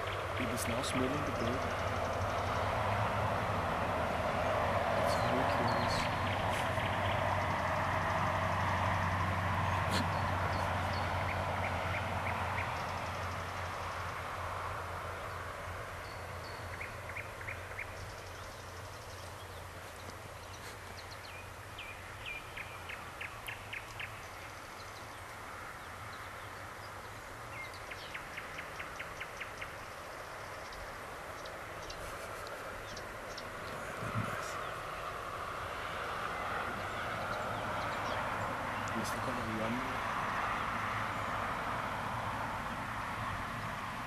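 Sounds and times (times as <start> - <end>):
birds calling: 0.0 - 44.0.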